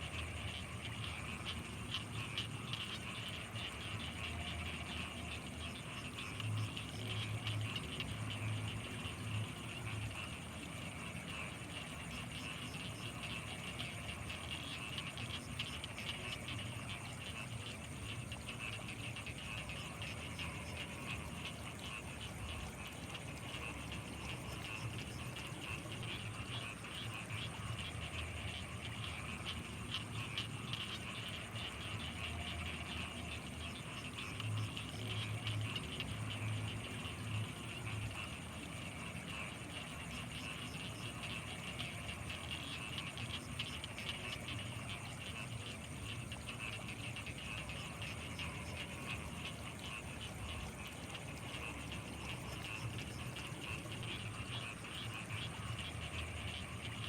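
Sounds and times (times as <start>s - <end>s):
deep pulsing frog call: 0.0s - 57.0s
frogs and insects chirping: 0.0s - 57.0s.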